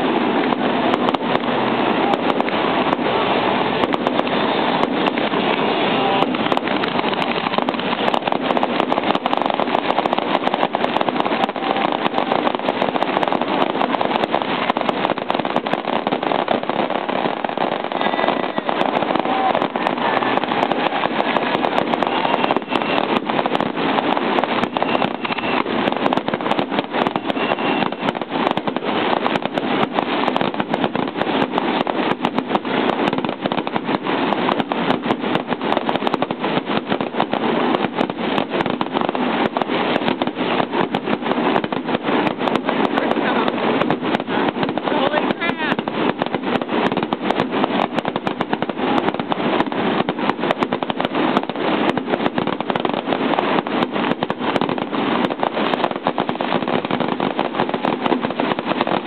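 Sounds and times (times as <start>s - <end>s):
fireworks crackles and pops: 0.0s - 59.0s
fireworks spraying sparks: 0.0s - 59.0s.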